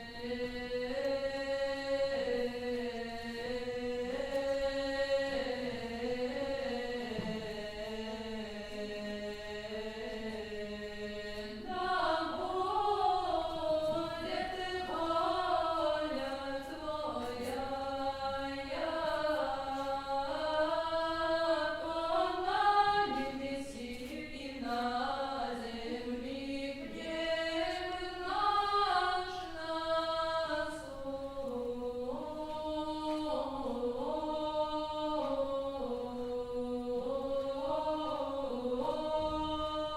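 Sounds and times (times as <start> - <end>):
voices singing unaccompanied chant: 0.0 - 39.9.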